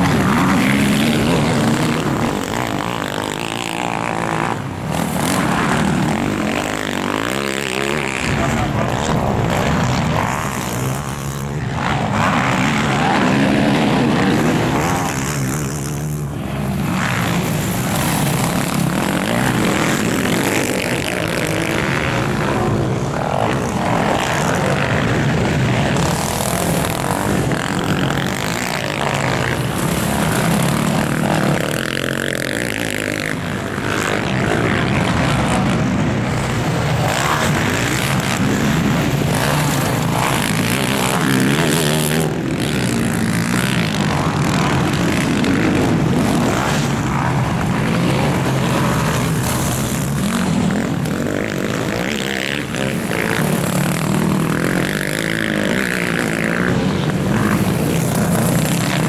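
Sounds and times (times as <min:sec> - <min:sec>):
quad bike engines revving: 0:00.0 - 0:59.0.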